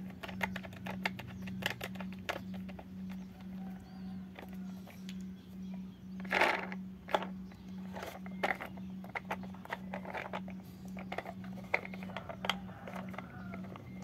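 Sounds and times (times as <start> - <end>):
pulsing low hum: 0.0 - 14.0.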